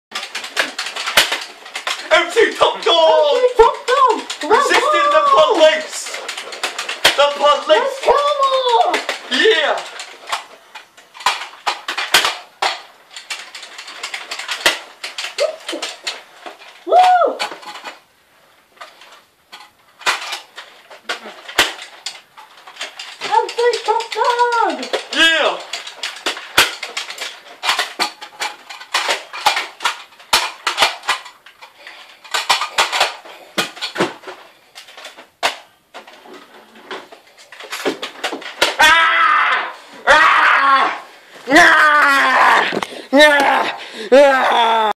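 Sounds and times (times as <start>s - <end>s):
toy blaster plastic clacks and pops: 0.1s - 18.0s, 18.8s - 39.0s.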